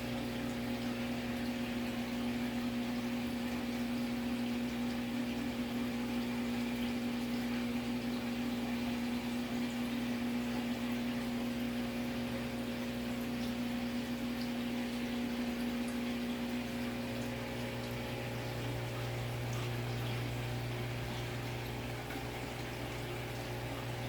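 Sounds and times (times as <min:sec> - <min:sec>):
aquarium pump humming: 0:00.0 - 0:24.0
water bubbling: 0:00.1 - 0:24.0.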